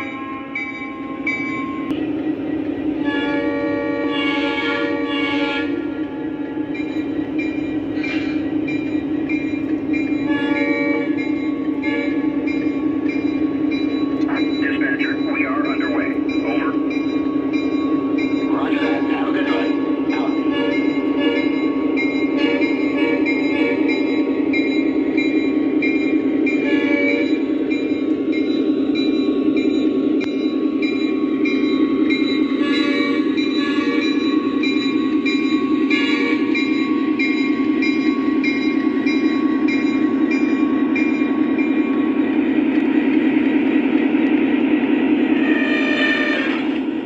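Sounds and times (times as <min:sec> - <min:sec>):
model locomotive diesel drone: 0:00.0 - 0:47.0.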